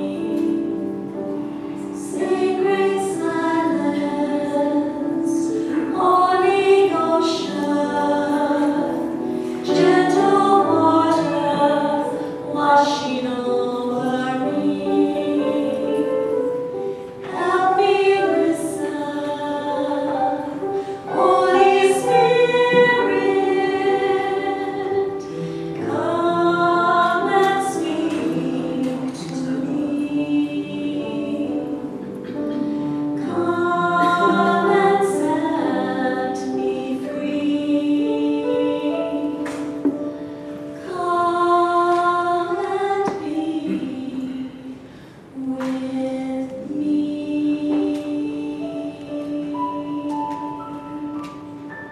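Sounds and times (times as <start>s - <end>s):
choir singing a hymn: 0.0s - 51.9s.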